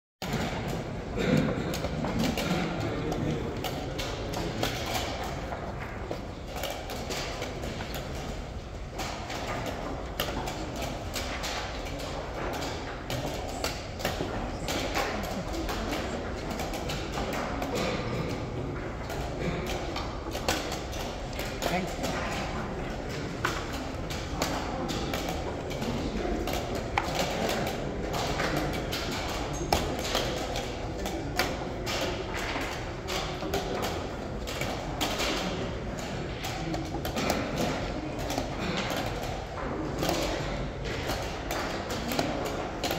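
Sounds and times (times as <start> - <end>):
busy hall background noise: 0.2 - 42.9
steady background noise: 0.2 - 42.9
chess pieces clacking on board: 1.4 - 42.9.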